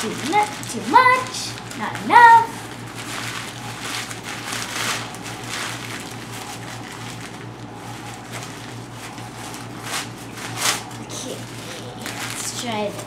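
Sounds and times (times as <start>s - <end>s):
newspaper being crumpled: 0.0s - 13.0s.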